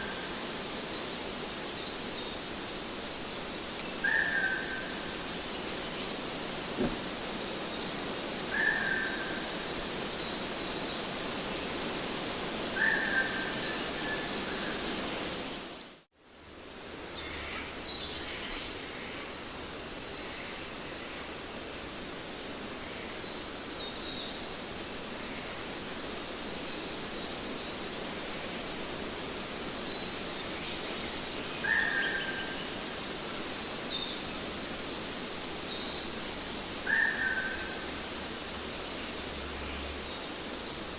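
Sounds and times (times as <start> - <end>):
background hiss: 0.0 - 40.9.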